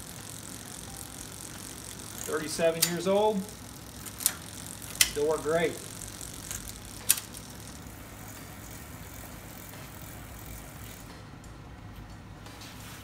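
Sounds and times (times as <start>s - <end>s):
bicycle hub ratchet whirring: 0.0s - 12.2s.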